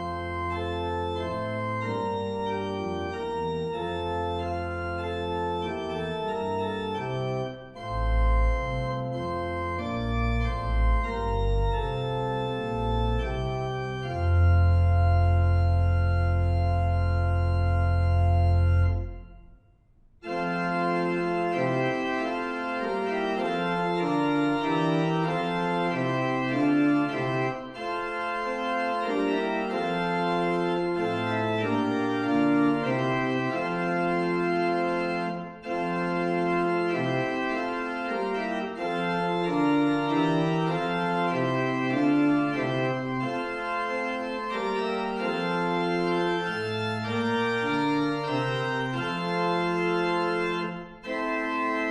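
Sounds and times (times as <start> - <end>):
organ playing chords: 0.0 - 51.9.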